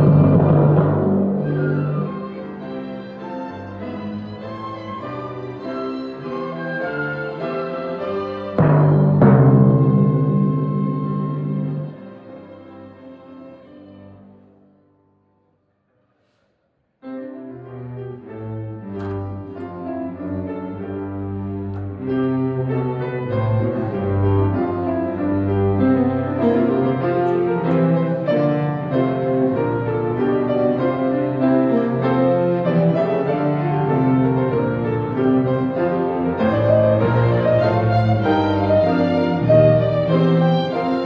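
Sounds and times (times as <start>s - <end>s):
bowed strings: 0.0s - 14.8s, 17.7s - 41.0s
piano: 0.0s - 41.0s.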